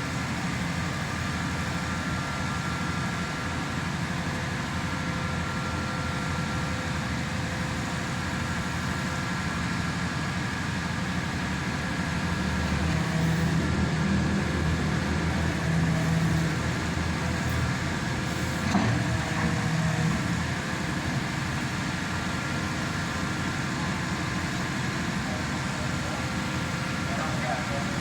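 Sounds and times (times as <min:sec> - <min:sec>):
pile driver engine running: 0:00.0 - 0:28.0.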